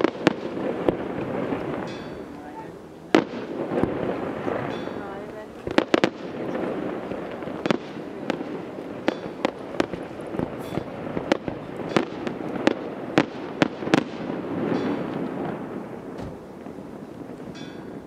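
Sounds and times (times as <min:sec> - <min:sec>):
background rumble: 0:00.0 - 0:18.0
fireworks bursting: 0:00.0 - 0:18.0.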